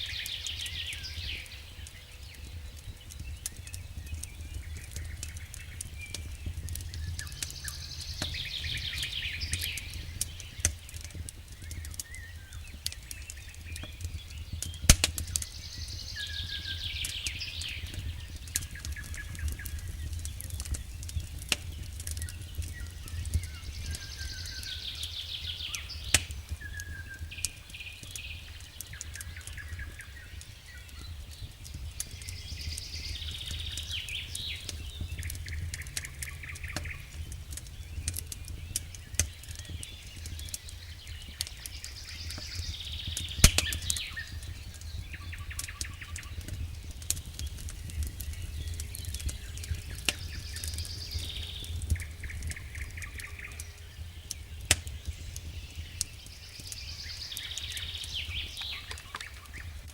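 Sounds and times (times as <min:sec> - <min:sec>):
low rumble of fire: 0:00.0 - 0:59.9
wood fire crackling and popping: 0:00.0 - 0:59.9.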